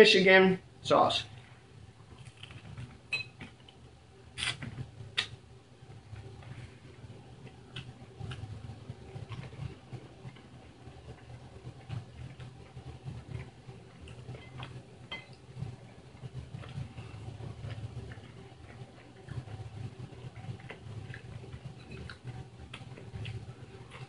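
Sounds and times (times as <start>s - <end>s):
man chewing food: 1.4s - 24.0s.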